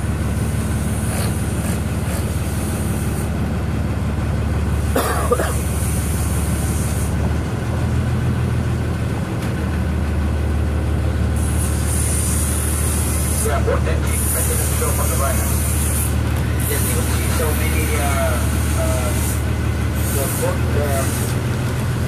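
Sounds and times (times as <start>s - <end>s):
ferry engine droning: 0.0s - 22.0s.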